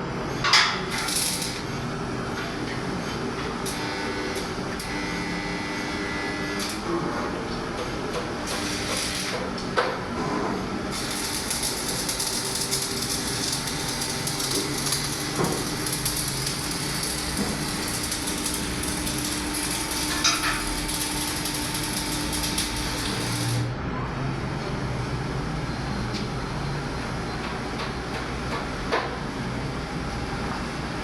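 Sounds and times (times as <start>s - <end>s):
workshop machinery running: 0.0s - 31.0s.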